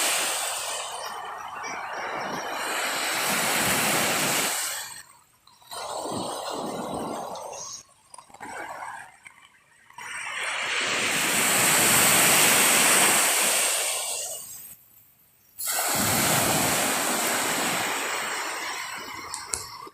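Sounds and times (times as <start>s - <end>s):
sea waves washing onto beach: 0.0s - 7.8s, 10.0s - 14.6s, 15.6s - 19.9s.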